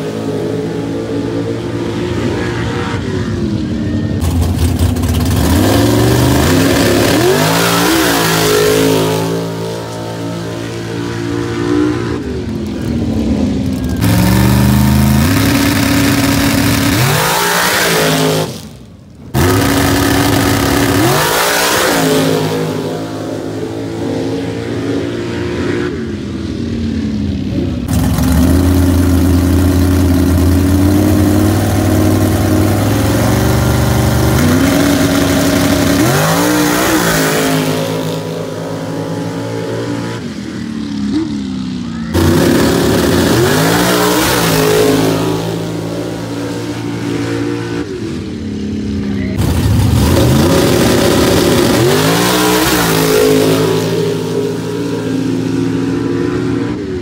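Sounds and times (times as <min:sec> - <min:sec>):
truck engine at full throttle: 0:00.0 - 0:57.0.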